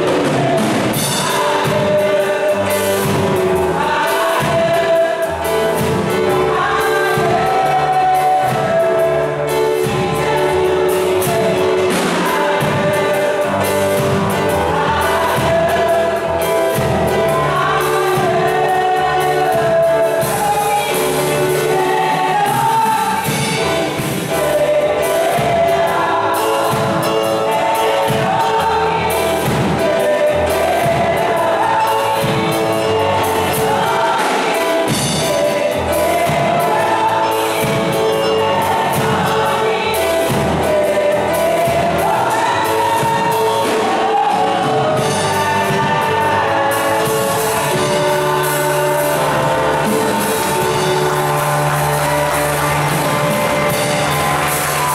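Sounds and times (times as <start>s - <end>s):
women's choir singing gospel: 0.0s - 54.9s.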